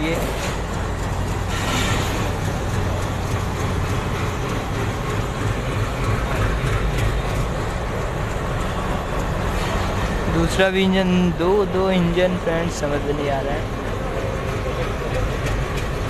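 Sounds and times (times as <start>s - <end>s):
diesel locomotive engine throbbing: 0.0s - 16.0s
rail noise: 0.0s - 16.0s.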